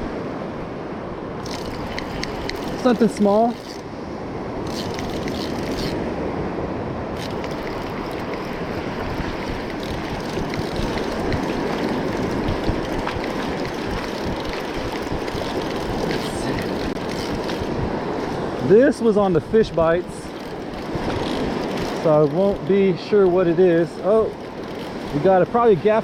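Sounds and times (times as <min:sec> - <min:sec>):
surf washing onto beach: 0:01.4 - 0:06.3, 0:07.1 - 0:26.0.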